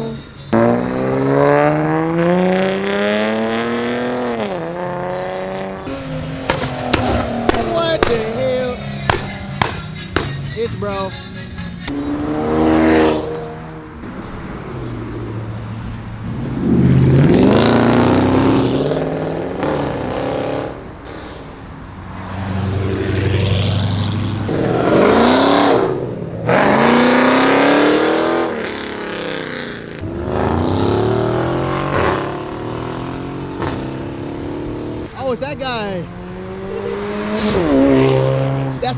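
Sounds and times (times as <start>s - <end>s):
car engines revving hard: 0.0s - 10.8s, 11.6s - 38.9s.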